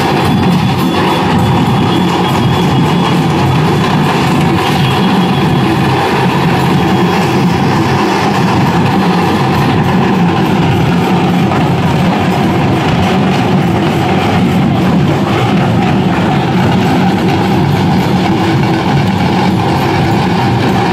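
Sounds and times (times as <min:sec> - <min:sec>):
large crowd din: 0:00.0 - 0:20.9.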